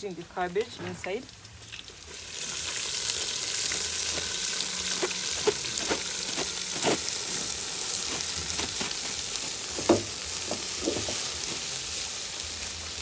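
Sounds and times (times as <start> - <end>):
cabbage sizzling in hot oil: 0.0 - 13.0.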